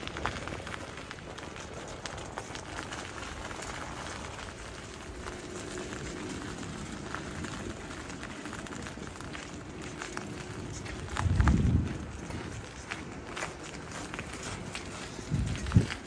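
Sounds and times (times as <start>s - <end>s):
bicycle tyres on icy pavement: 0.0s - 16.0s.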